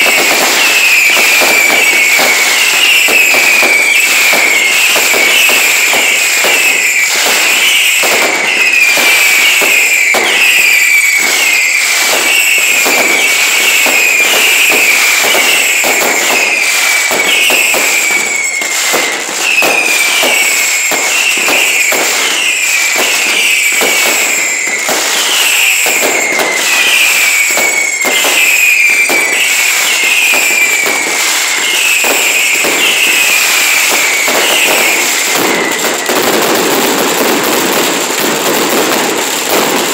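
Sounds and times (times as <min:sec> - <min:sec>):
fireworks bangs and crackles: 0:00.0 - 0:39.9
whistling fireworks: 0:00.0 - 0:39.9.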